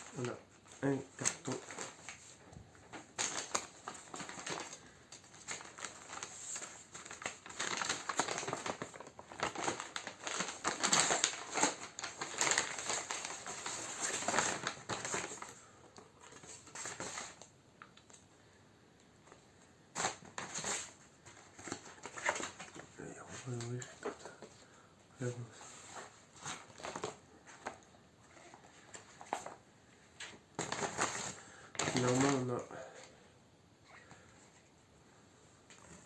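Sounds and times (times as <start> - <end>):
cardboard packaging crinkling: 0.0 - 18.1, 20.0 - 24.6, 25.3 - 29.6, 30.2 - 33.1.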